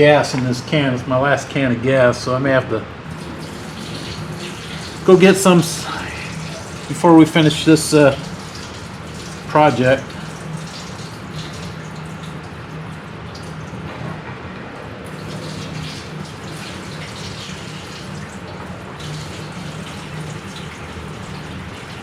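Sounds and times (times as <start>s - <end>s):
low steady hum: 0.0s - 22.0s
gasoline pouring into tank: 3.0s - 13.9s, 14.8s - 22.0s.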